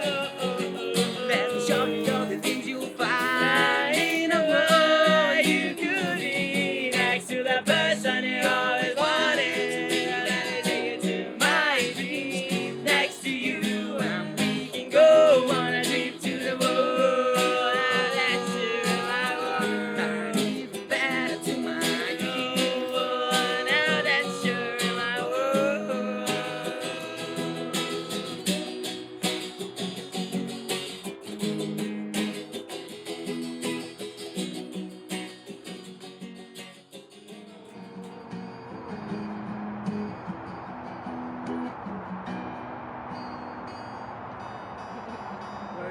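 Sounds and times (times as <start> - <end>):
strummed acoustic guitar: 0.0 - 45.9.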